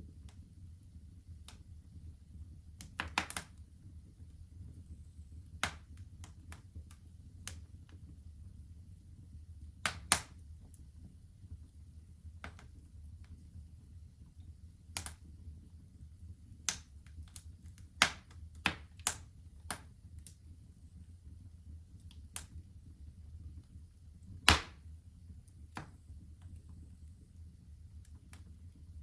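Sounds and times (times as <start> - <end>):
wood fire crackling: 0.0 - 29.0
low steady rumble: 3.5 - 29.0.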